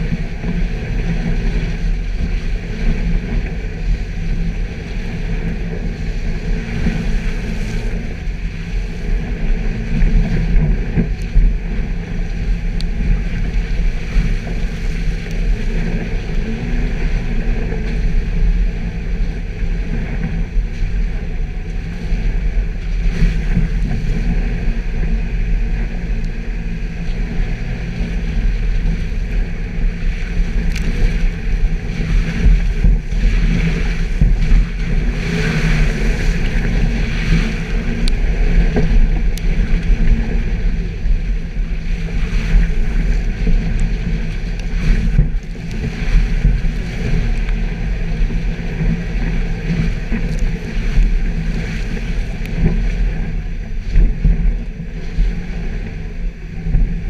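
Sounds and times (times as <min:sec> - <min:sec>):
car engine running: 0:00.0 - 0:57.0
wind noise: 0:00.0 - 0:57.0.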